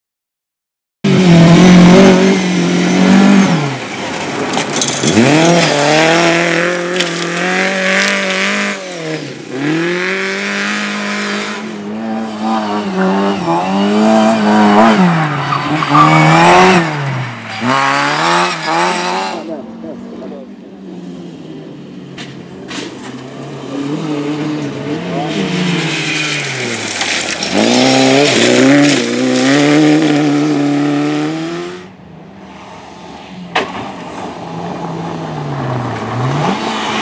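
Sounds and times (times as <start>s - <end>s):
rally car engine revving: 1.0s - 32.0s, 33.0s - 37.0s.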